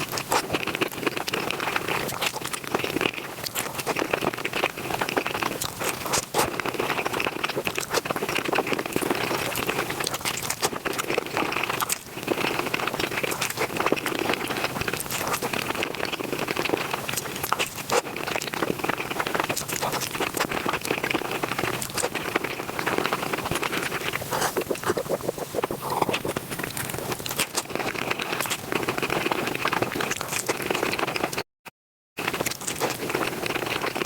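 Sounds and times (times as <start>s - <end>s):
fast chewing and crunching: 0.0s - 31.5s, 32.2s - 34.0s.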